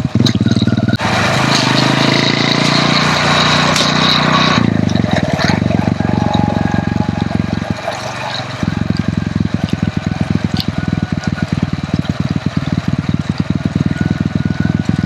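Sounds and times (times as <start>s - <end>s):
motorcycle engine running: 0.0s - 15.0s
rushing noise: 1.0s - 15.0s.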